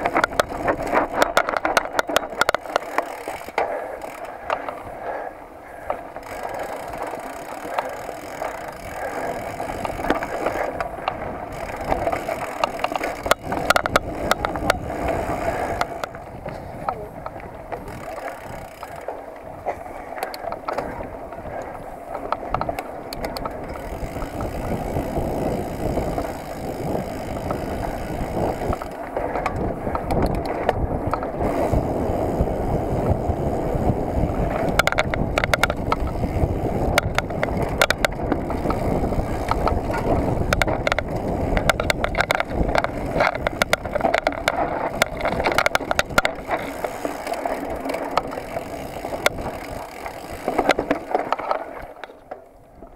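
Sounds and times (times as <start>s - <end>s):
bike frame rattling: 0.0s - 52.9s
bike tyre noise on dirt: 0.0s - 52.9s.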